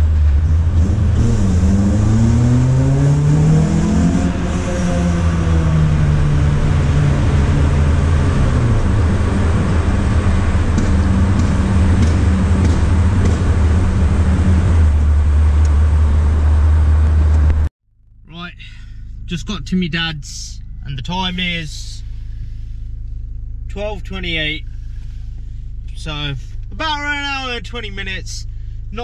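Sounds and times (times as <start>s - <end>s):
car engine drone: 0.0s - 29.0s
road noise: 0.0s - 29.0s.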